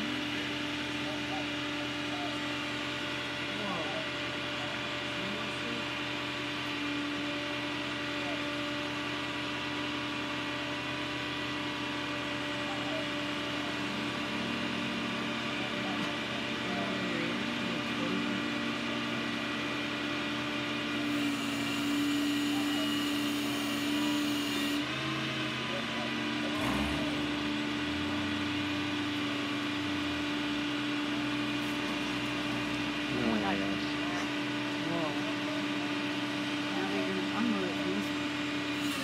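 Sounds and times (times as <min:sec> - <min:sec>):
truck engine idling: 0:00.0 - 0:24.2, 0:24.8 - 0:38.8.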